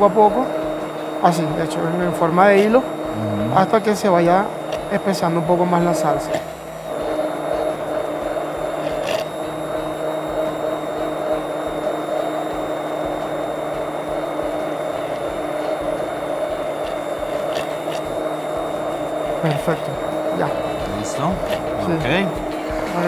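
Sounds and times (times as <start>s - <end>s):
immersion blender running: 0.0s - 23.0s.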